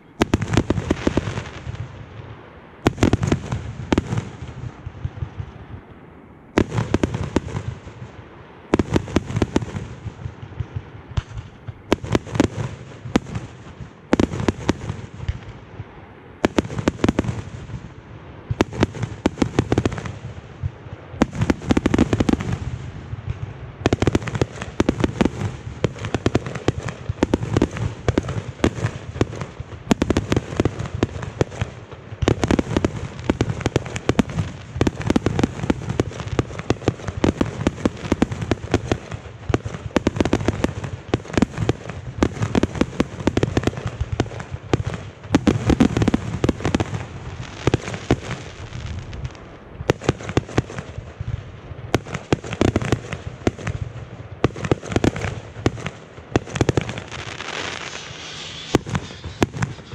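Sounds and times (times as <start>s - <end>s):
fireworks launches and bangs: 0.1s - 5.9s, 6.5s - 59.9s.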